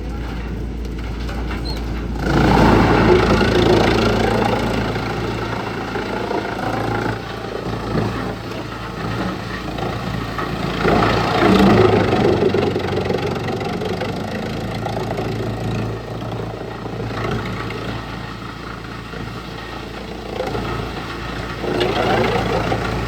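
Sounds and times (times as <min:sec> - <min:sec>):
wood chipper engine running: 0:00.0 - 0:23.0.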